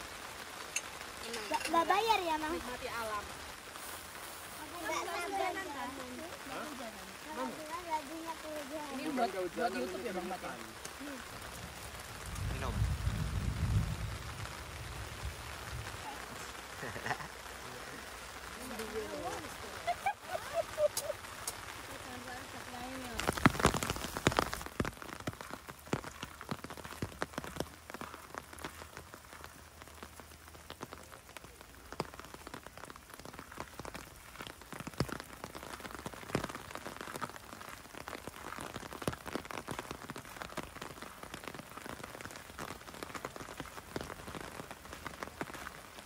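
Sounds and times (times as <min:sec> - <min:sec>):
rain falling: 0:00.0 - 0:46.0
raindrops ticking: 0:00.0 - 0:46.0.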